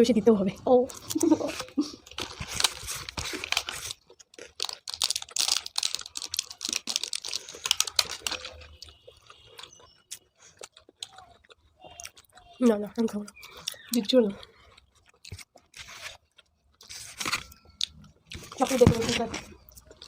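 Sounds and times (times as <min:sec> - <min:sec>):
chewing with clicks and crackles: 0:00.8 - 0:18.7, 0:19.4 - 0:20.0.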